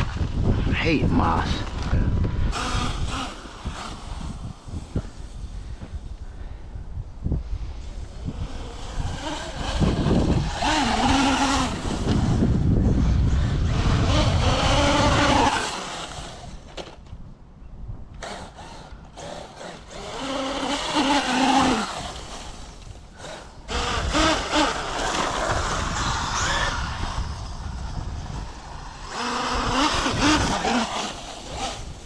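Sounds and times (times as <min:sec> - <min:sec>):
electric motor whining: 0:02.1 - 0:05.4, 0:07.9 - 0:17.1, 0:18.2 - 0:32.0.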